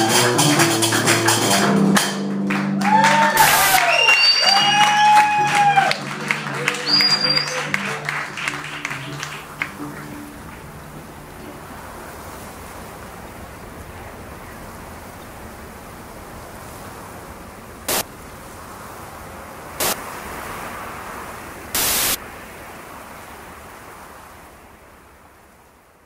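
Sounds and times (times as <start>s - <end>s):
surf breaking: 0.0s - 26.0s
white-noise static bursts: 3.3s - 26.0s.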